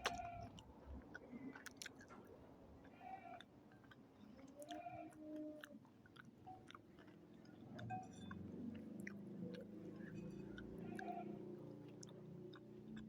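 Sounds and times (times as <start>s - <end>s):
close chewing and mouth sounds: 0.0s - 13.0s.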